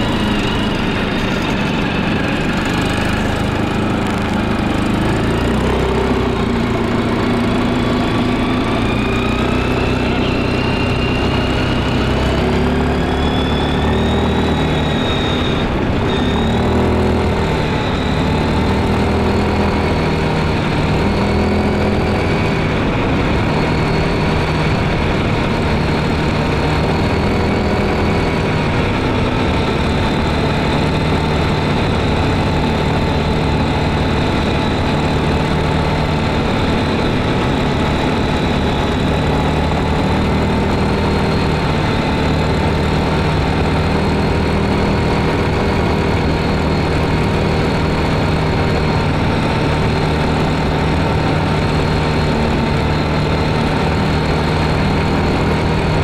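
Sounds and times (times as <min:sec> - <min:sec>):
high whine rising in pitch: 0:00.0 - 0:56.0
quad bike engine running: 0:00.0 - 0:56.0.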